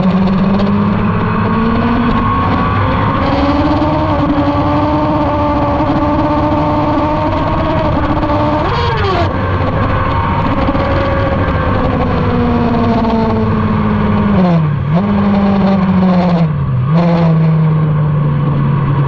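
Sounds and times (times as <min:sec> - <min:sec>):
motorcycle engine revving high: 0:00.0 - 0:19.0.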